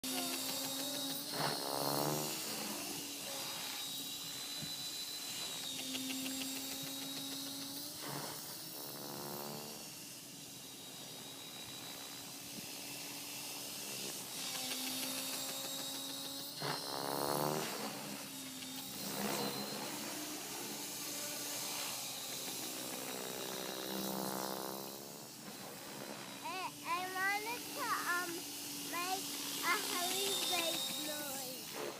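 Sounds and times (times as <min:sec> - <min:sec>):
wavering rotor sweep: 0:00.0 - 0:08.8, 0:09.4 - 0:31.9
electric helicopter hum and whine: 0:00.0 - 0:31.9.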